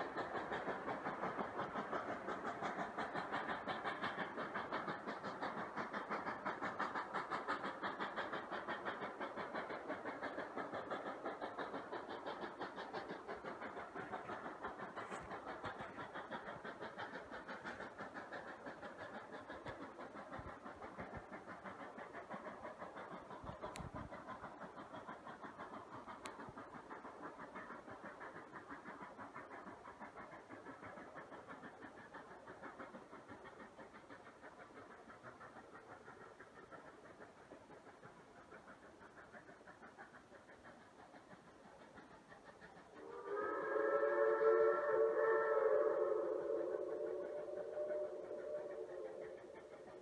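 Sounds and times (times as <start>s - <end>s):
steam locomotive chuffing: 0.0s - 50.0s.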